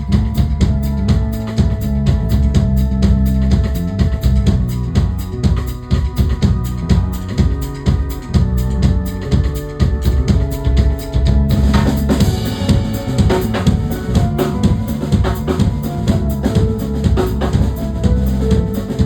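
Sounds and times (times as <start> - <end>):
band playing a song: 0.0 - 19.0
drum kit beat: 0.0 - 19.0.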